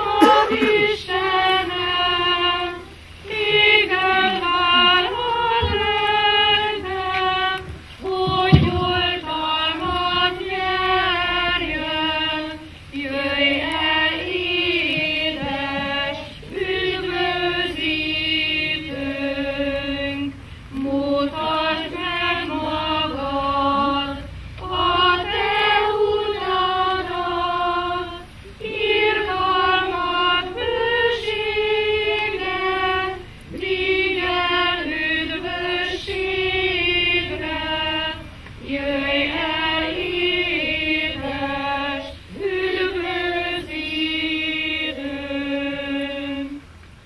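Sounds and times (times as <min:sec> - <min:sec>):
children and adults singing hymn: 0:00.0 - 0:47.0.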